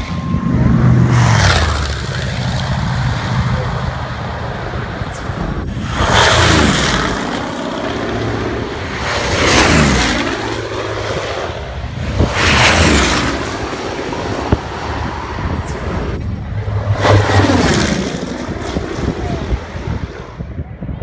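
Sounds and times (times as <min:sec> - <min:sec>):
propeller plane flying past: 0:00.0 - 0:20.6.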